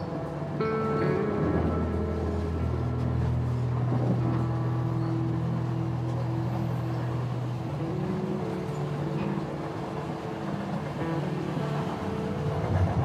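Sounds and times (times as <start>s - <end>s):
slow held chords: 0.0s - 13.0s
steady hissing wash: 0.0s - 13.0s.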